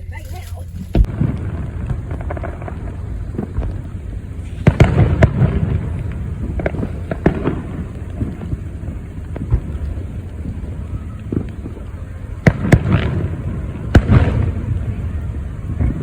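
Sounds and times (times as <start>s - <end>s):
steady low rumble: 0.0s - 16.0s
fireworks bangs and cracks: 0.1s - 16.0s.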